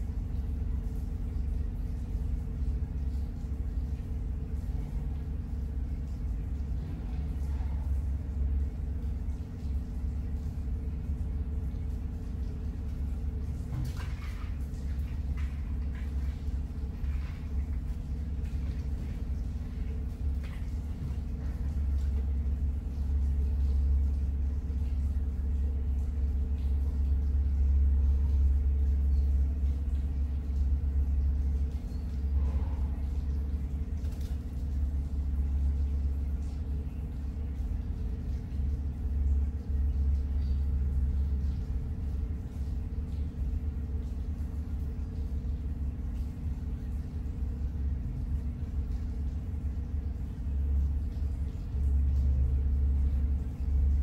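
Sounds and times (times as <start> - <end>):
faint hum: 0.0 - 54.0
low mechanical rumble: 0.0 - 54.0.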